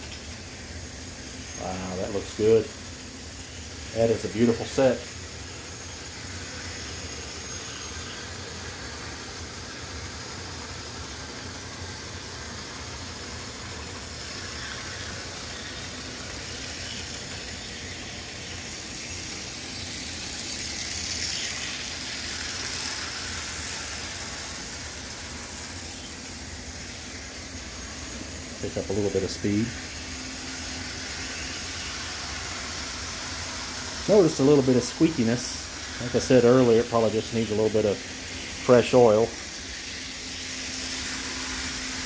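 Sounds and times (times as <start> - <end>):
model train motor whir: 0.0 - 42.0.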